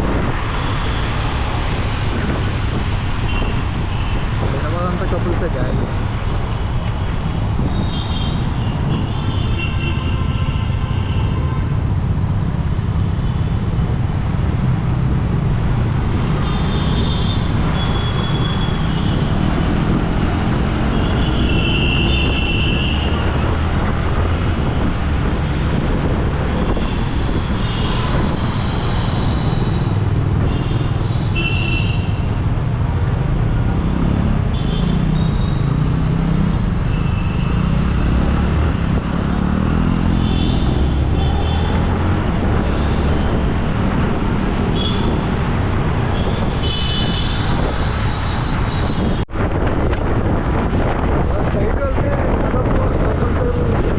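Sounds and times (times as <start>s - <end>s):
motorbike road and wind noise: 0.0s - 53.9s.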